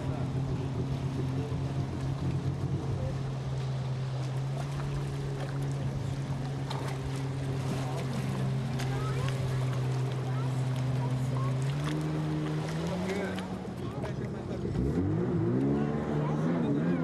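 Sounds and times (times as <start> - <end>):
watercraft engine drone: 0.0 - 17.0.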